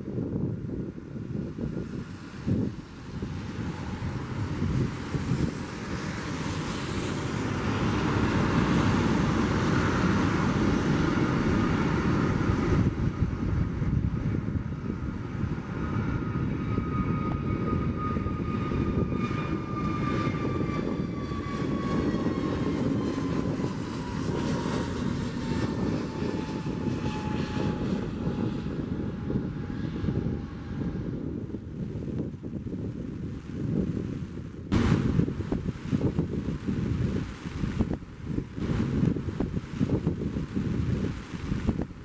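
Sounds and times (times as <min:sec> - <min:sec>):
jet engines rumbling: 0:00.0 - 0:42.0
thin engine whine: 0:01.1 - 0:42.0.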